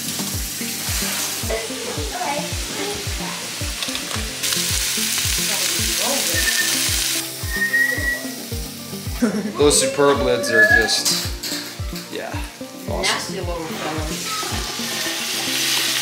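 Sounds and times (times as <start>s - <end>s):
background music with low beat: 0.0s - 16.0s
vegetables sizzling in pot: 0.0s - 16.0s.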